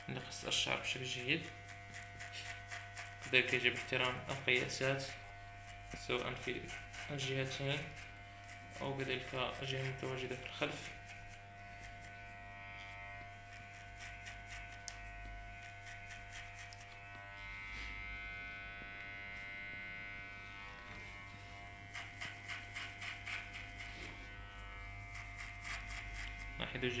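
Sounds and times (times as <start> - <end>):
hair clippers buzzing: 0.0 - 27.0
comb strokes through hair: 0.8 - 18.2, 20.2 - 26.6.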